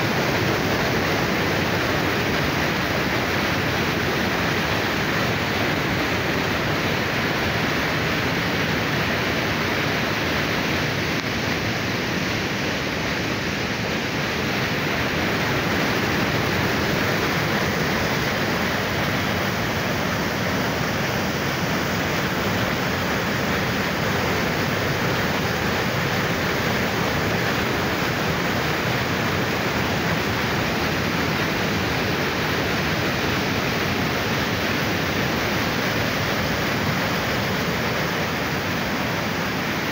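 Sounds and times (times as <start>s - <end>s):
water rushing through channel: 0.0s - 39.9s.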